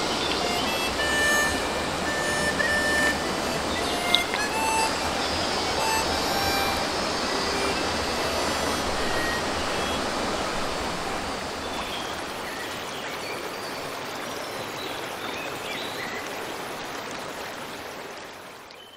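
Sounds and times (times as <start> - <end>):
stream running over rocks: 0.0 - 18.9.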